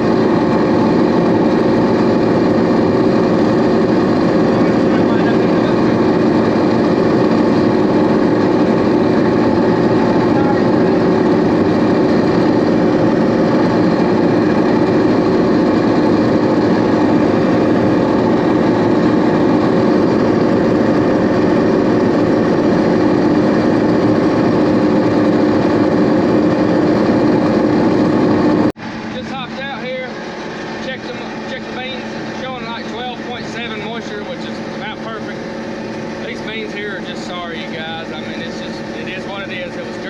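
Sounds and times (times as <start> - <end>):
combine harvester drone: 0.0 - 40.0.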